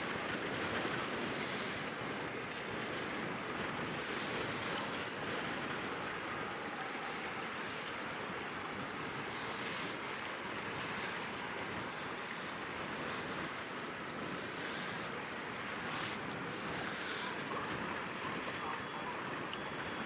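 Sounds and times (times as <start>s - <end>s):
rushing water: 0.0s - 20.0s
strong wind: 0.0s - 20.0s.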